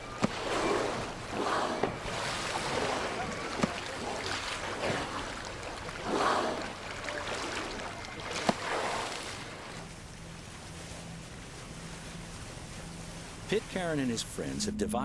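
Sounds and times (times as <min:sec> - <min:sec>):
water sloshing around a boat: 0:00.0 - 0:14.6
wind: 0:00.0 - 0:15.0.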